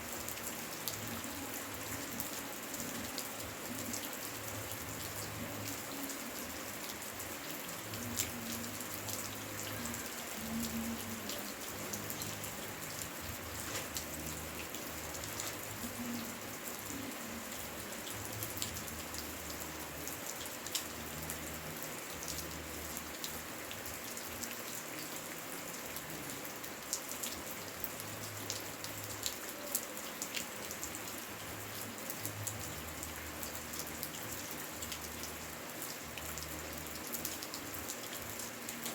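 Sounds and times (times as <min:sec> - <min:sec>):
raindrops ticking close by: 0:00.0 - 0:38.9
steady rain: 0:00.0 - 0:38.9.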